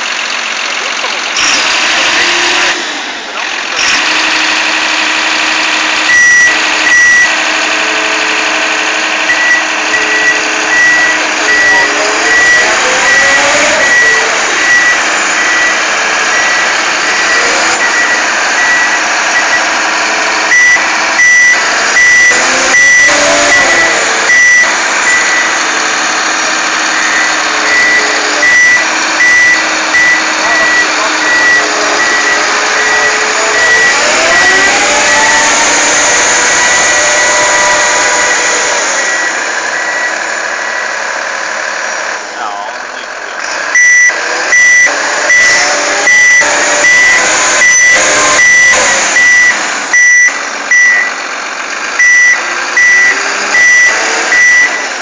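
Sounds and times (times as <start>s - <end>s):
diesel engine revving: 0.0s - 55.0s
high-pitched warning beeper: 6.1s - 26.0s, 26.8s - 40.9s, 43.8s - 51.2s, 52.0s - 54.9s.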